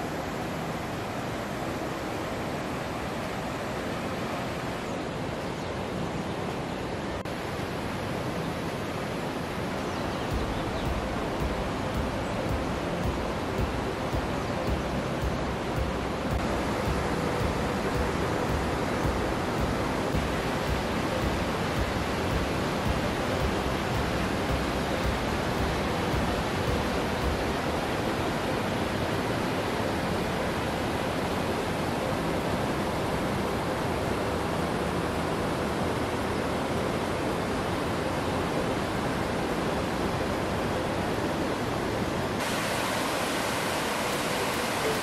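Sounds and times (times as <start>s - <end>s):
stream water rushing over rocks: 0.0s - 45.0s.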